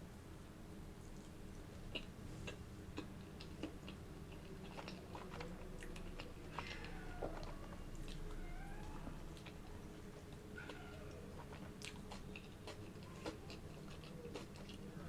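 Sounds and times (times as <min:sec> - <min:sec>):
chewing crunchy food: 0:01.0 - 0:15.0.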